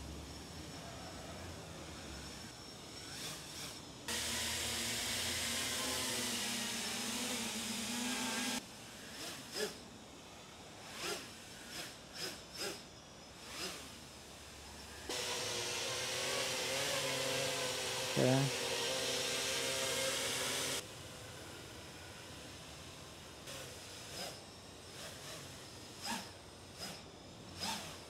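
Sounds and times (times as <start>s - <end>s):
quadcopter whirring hiss: 0.0s - 28.0s.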